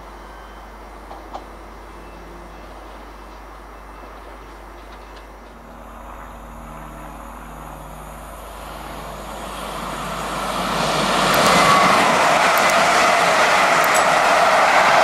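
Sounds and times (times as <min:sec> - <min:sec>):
train approaching: 0:00.0 - 0:15.0.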